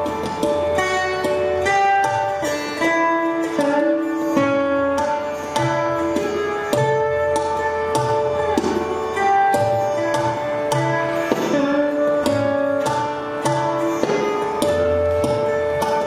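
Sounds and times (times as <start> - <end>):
slide guitar plucked melody: 0.0 - 16.0
tabla drum strokes: 0.0 - 16.0.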